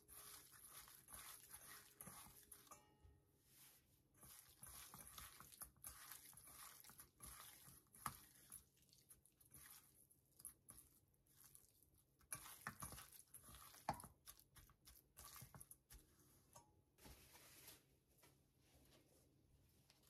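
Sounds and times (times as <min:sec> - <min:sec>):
wet squishing of kneaded meat: 0:00.0 - 0:17.0.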